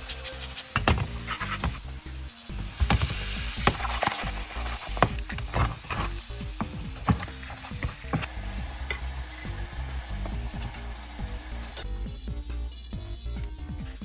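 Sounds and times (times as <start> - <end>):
butter sizzling in pan: 0.0 - 11.9.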